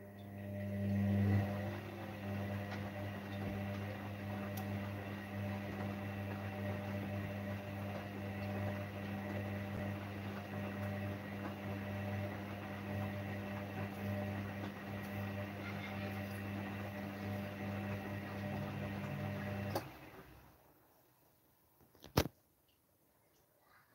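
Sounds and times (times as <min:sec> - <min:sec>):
washing machine humming: 0:00.0 - 0:20.8.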